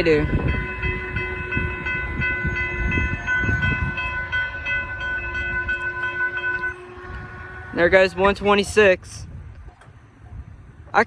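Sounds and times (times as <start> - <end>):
railroad crossing bell ringing: 0.0 - 10.8
low train rumble: 0.0 - 11.0.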